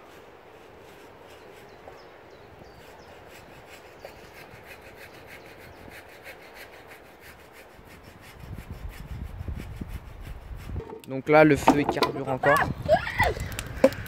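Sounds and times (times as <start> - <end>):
hand saw cutting wood: 0.0 - 12.6.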